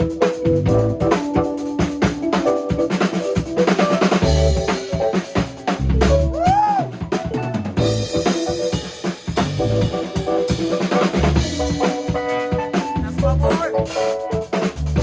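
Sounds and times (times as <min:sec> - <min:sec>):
sustained band instrument notes: 0:00.0 - 0:06.4, 0:07.1 - 0:15.0
drum kit groove: 0:00.0 - 0:15.0.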